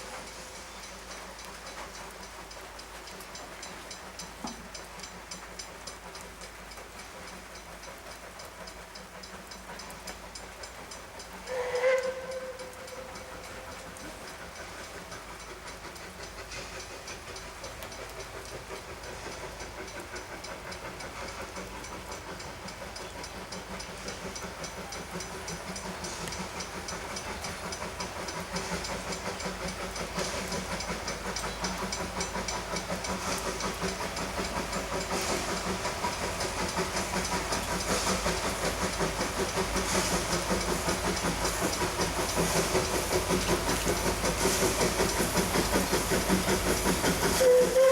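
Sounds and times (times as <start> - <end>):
steam hissing: 0.0 - 47.9
steam locomotive chuffing: 0.0 - 47.9.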